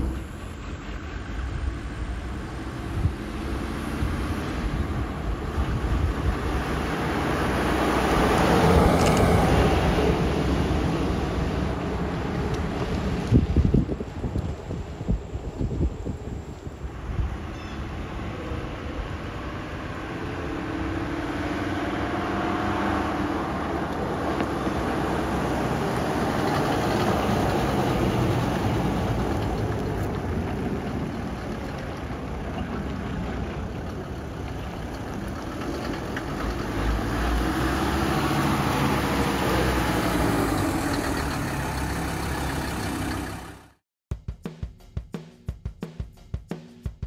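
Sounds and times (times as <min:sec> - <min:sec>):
diesel truck driving by: 0:00.0 - 0:43.8.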